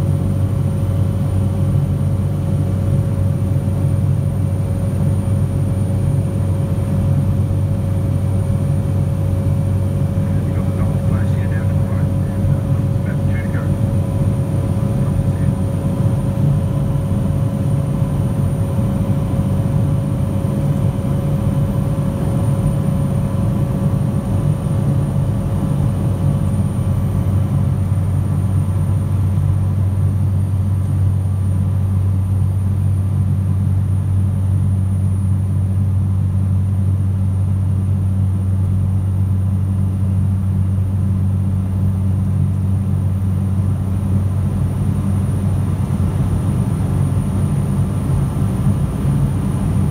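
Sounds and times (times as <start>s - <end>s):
aircraft engine drone in cabin: 0.0s - 49.9s.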